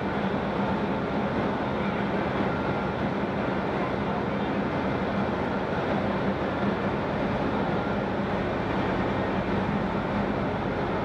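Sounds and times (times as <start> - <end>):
heavy machinery droning: 0.0 - 11.0.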